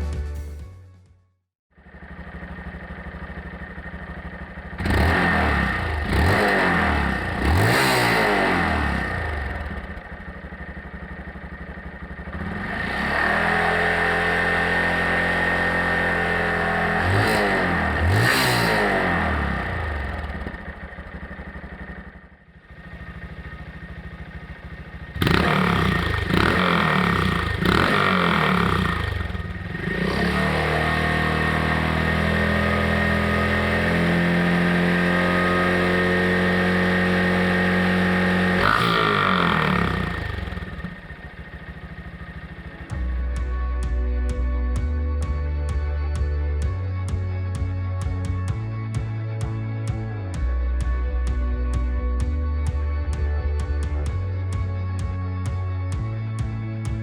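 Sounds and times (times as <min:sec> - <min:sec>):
motorcycle engine idling and revving: 0:01.7 - 0:57.0.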